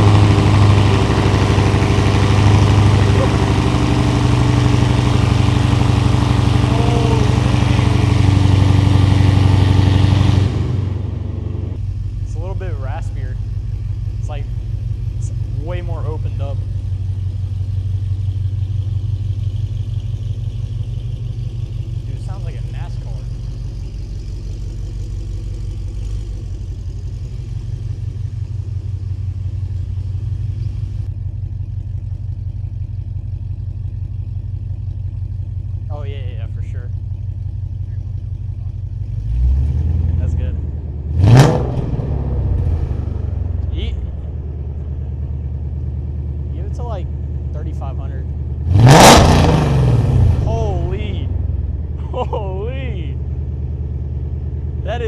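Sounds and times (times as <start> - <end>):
car engine idling loudly: 0.0 - 55.0.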